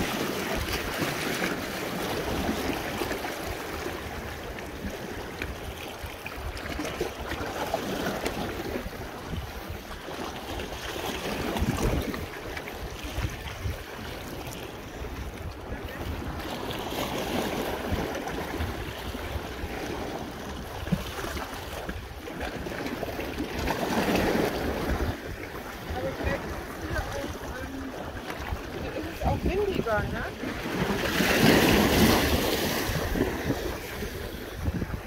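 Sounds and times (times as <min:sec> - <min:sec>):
sea water lapping on rocks: 0:00.0 - 0:35.0
wind buffeting microphone: 0:00.0 - 0:35.0.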